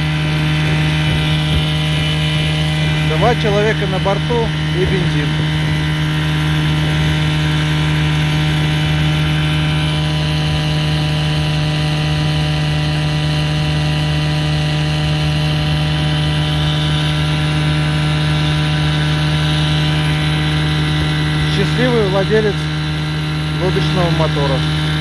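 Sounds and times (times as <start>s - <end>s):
outboard motor at full throttle: 0.0s - 25.0s.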